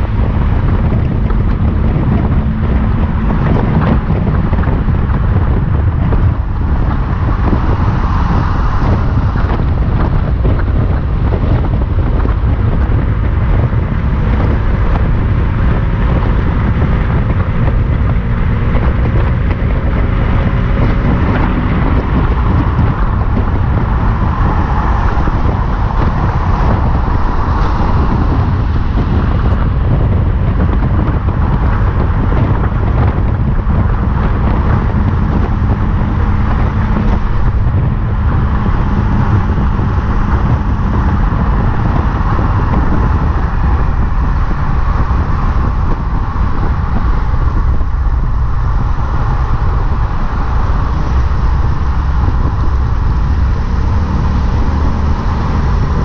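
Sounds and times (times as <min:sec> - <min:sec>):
tyre and wind rumble: 0:00.0 - 0:56.0
vehicle road noise: 0:00.0 - 0:56.0.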